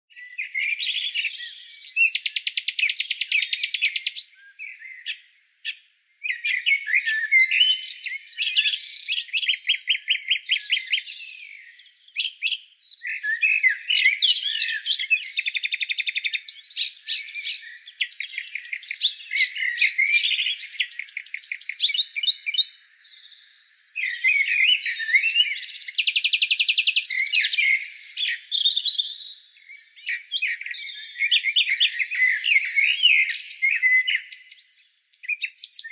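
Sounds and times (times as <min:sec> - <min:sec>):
songbirds chirping and trilling: 0:00.1 - 0:35.9.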